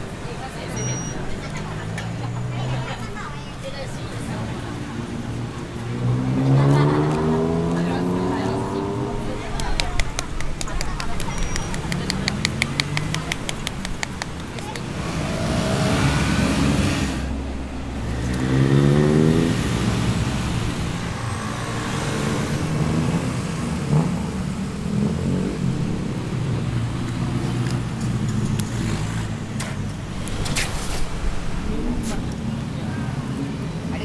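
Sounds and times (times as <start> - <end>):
vehicle accelerating: 0.0 - 34.0
vehicle engines running: 0.0 - 34.0.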